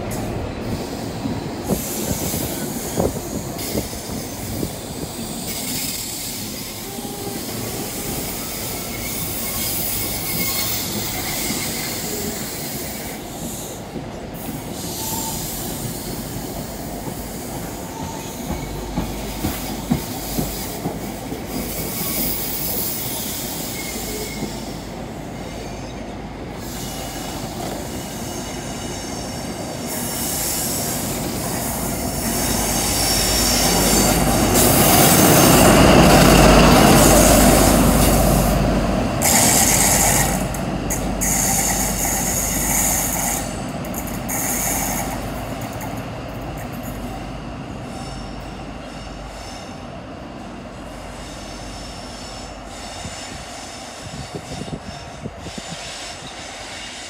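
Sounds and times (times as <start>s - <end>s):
train wheels squealing: 0.1s - 57.0s.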